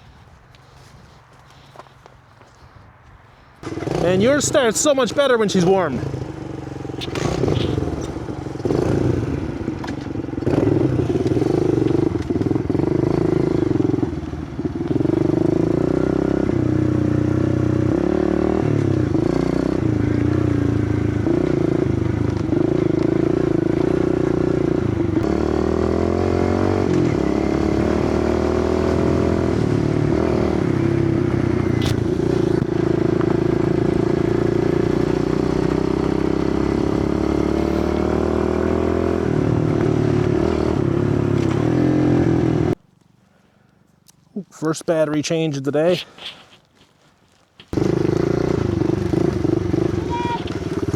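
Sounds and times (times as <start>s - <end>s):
small motorcycle engine running: 3.6s - 42.8s, 47.6s - 50.9s.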